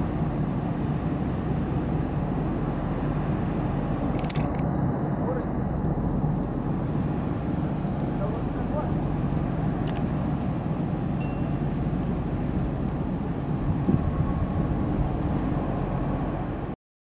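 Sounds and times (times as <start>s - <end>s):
ship diesel engines rumbling: 0.0s - 16.8s.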